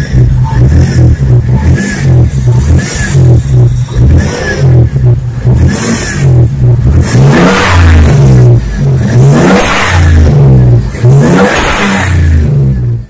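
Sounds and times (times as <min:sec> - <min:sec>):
turbocharged engine revving: 0:00.0 - 0:13.0.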